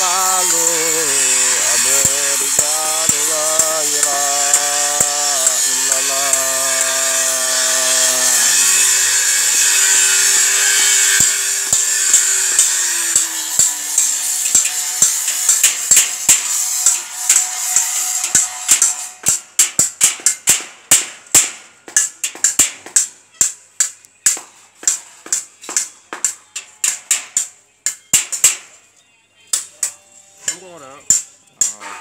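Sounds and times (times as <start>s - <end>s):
hammer striking metal gate: 0.0s - 28.8s, 29.6s - 32.0s.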